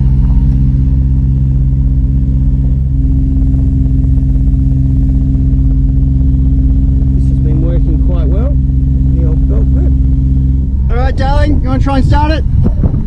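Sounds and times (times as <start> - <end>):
marine diesel engine running: 0.0 - 13.0.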